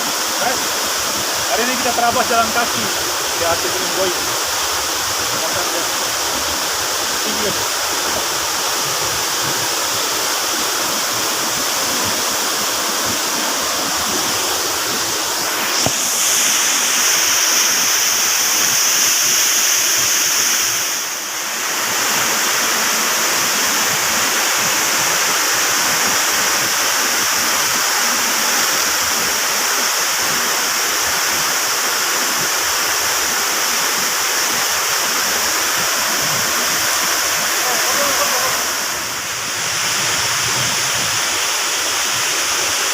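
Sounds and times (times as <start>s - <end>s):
high hiss: 0.0s - 42.9s
waterfall roaring: 0.0s - 42.9s.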